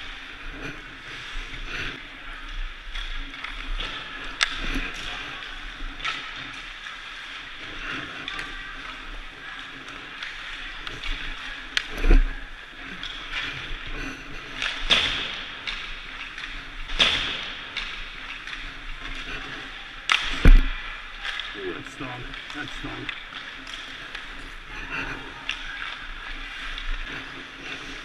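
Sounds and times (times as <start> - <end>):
echoing rink noise: 0.0 - 28.0
skates scraping ice: 0.0 - 28.0.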